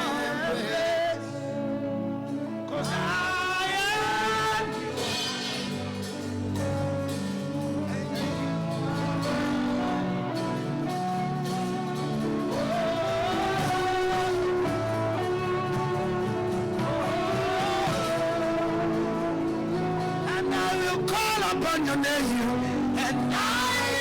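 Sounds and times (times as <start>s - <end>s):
slow live worship music: 0.0s - 24.0s.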